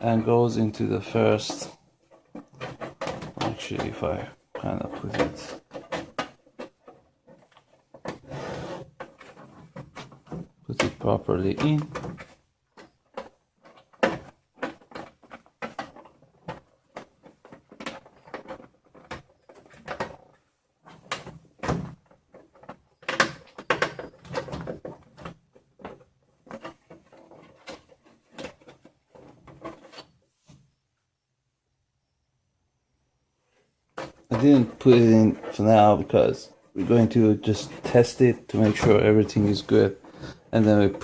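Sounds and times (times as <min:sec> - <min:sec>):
clicks and knocks of hands working: 0:00.0 - 0:30.2, 0:33.9 - 0:41.0.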